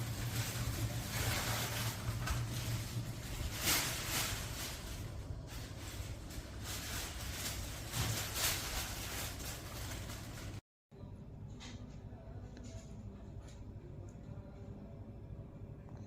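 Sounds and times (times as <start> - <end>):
exhaust fan running: 0.0 - 16.0.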